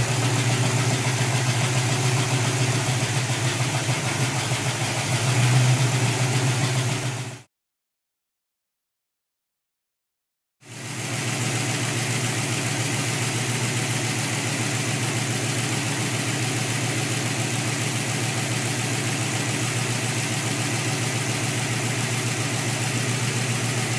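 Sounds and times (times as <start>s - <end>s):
car engine idling: 0.0s - 7.4s, 10.7s - 23.9s.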